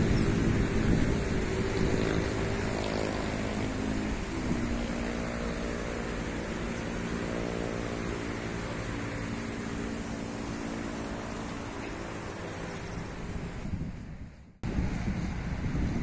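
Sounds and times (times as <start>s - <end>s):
highway traffic rushing: 0.0s - 16.0s
wind buffeting microphone: 0.0s - 16.0s.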